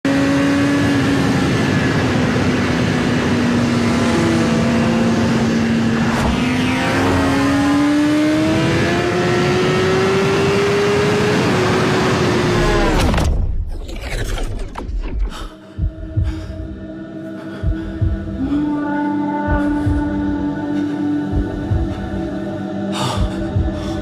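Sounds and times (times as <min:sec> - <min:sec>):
synthesized engine drone: 0:00.0 - 0:24.0.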